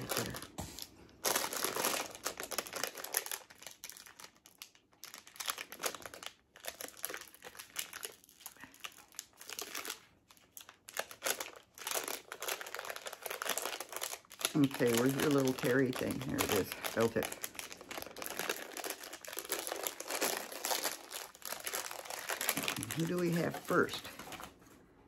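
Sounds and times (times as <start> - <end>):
packaging wrapper crinkling: 0.0 - 24.8.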